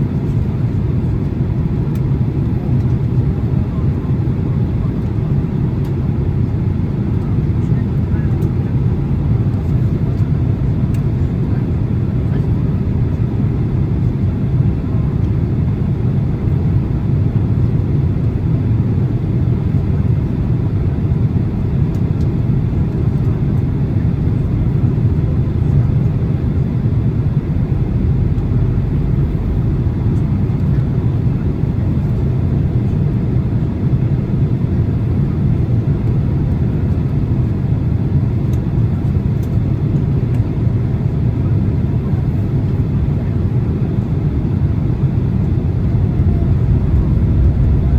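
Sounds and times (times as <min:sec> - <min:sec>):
airplane cabin rumble: 0:00.0 - 0:47.9.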